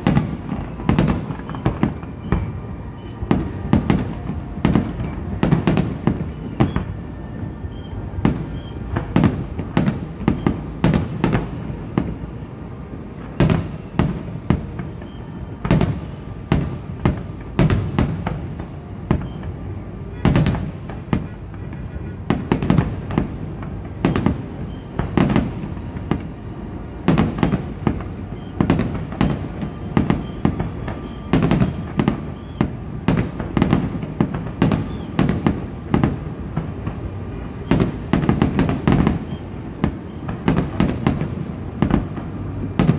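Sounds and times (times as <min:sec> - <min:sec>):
fireworks bursting with echo: 0:00.0 - 0:42.9.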